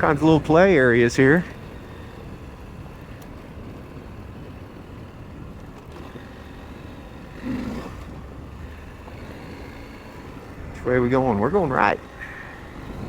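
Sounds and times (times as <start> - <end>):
motorcycle engine rumble: 0.0 - 13.0
road and wind noise: 0.0 - 13.0.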